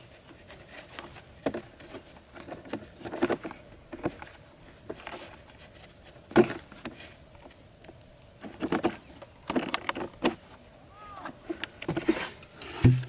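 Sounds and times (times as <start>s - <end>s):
objects being handled: 0.0s - 10.6s, 11.2s - 13.0s.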